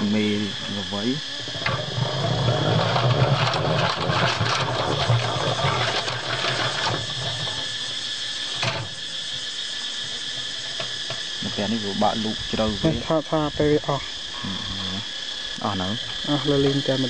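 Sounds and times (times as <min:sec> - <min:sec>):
crank gears whirring and rattling: 0:00.0 - 0:13.8.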